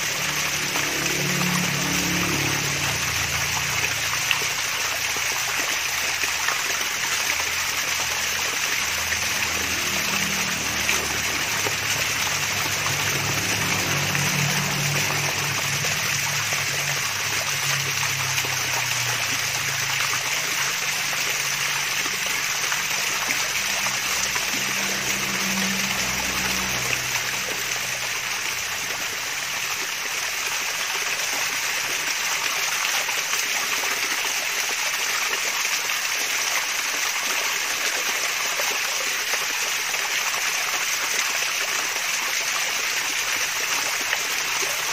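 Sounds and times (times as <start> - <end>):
water splashing down waterfall: 0.0 - 44.9.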